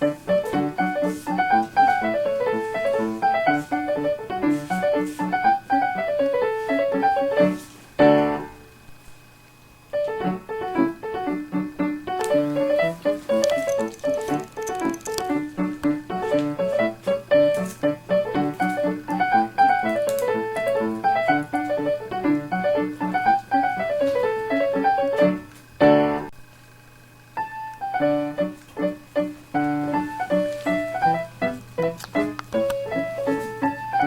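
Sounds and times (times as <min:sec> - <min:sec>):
piano music with running notes: 0:00.0 - 0:26.4, 0:27.0 - 0:34.0.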